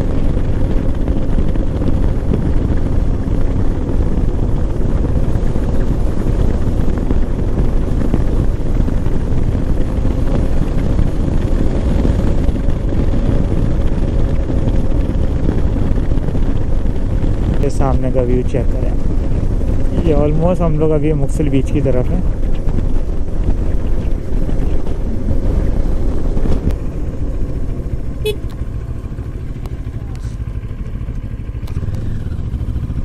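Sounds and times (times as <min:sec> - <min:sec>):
motorcycle engine running: 0:00.0 - 0:33.0
wind rush on microphone: 0:00.0 - 0:33.0.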